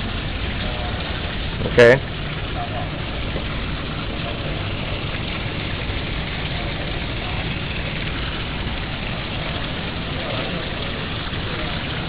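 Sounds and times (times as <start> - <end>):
low steady rumble: 0.0 - 12.0
water splashing onto paving: 0.0 - 12.0.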